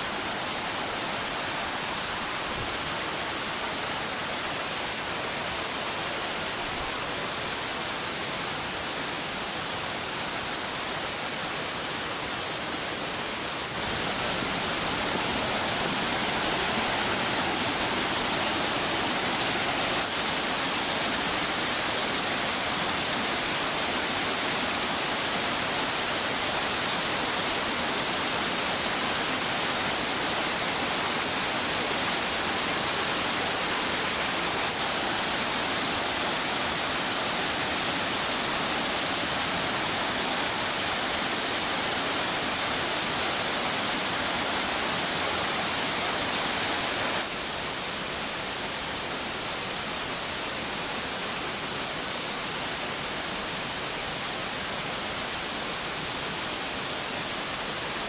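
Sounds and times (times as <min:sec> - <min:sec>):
waterfall cascading over boulders: 0:00.0 - 0:58.0.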